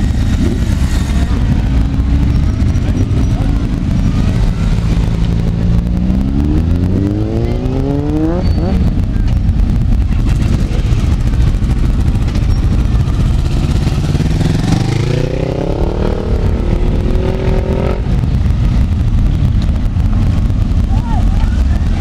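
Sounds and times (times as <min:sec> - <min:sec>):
motorcycle engines rumbling: 0:00.0 - 0:22.0
motorcycle revving and pulling away: 0:00.0 - 0:22.0.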